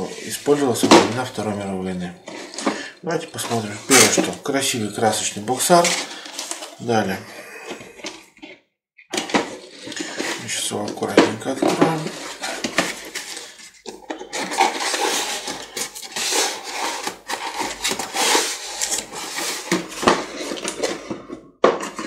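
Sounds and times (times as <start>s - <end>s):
cardboard scraping and rubbing: 0.0s - 7.2s, 9.3s - 21.2s.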